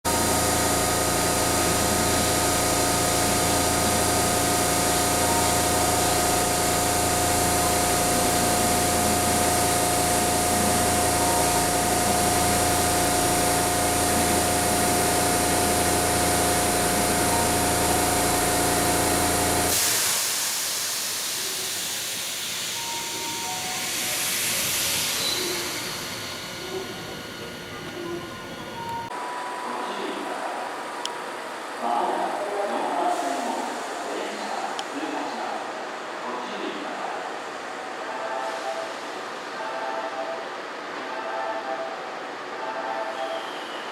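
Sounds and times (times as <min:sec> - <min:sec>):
train humming and hissing: 0:00.1 - 0:43.9.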